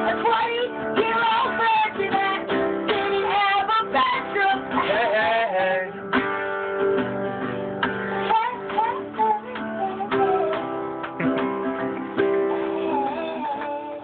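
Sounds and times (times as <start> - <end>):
person singing: 0.0 - 6.0, 8.2 - 14.0
acoustic guitar strumming: 0.0 - 14.0.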